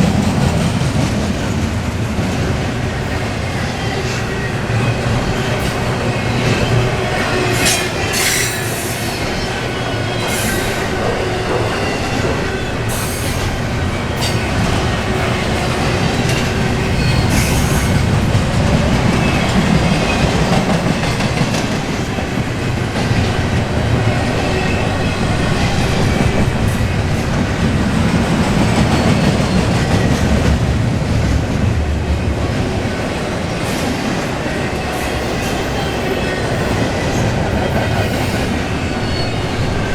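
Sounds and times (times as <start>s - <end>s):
freight train rumbling past: 0.0s - 39.9s
train wheel squeals: 3.0s - 22.0s, 22.7s - 27.6s, 28.3s - 30.5s, 33.6s - 39.9s.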